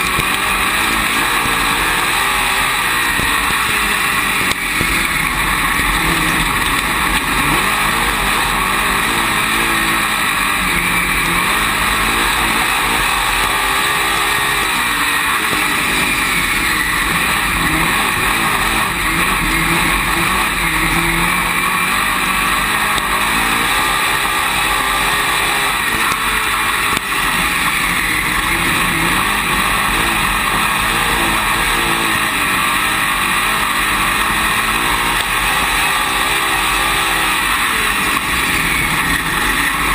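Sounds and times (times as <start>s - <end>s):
race car engine revving: 0.0s - 39.9s
wind and track noise: 0.0s - 39.9s.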